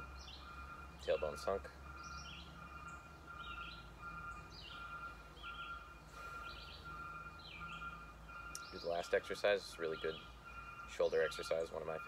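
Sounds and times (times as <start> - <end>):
woodland birds chirping: 0.0 - 12.0.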